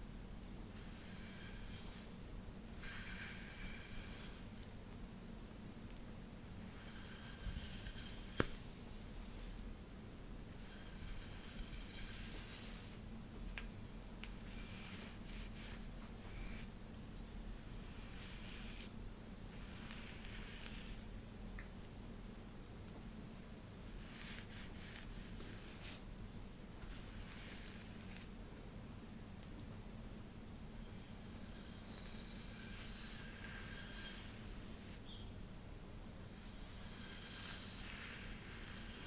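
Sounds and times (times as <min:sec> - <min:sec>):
low room hum: 0:00.0 - 0:39.0.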